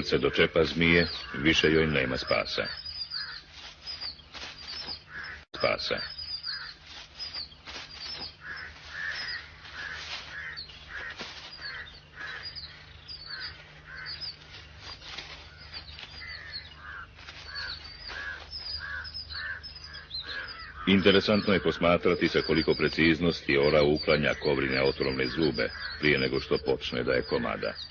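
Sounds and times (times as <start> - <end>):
birds harsh calls: 0.0 - 27.9
thin high chirps: 0.7 - 27.9.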